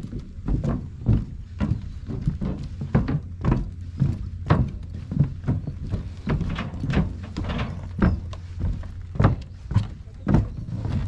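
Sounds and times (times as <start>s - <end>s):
footsteps on wooden planks: 0.0s - 11.0s
steady low rumble: 0.0s - 11.0s.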